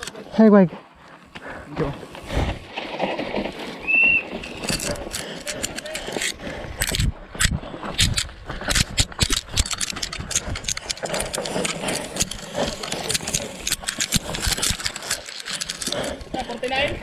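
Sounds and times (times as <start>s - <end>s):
mountain bike rattling over rough ground: 0.0s - 17.0s.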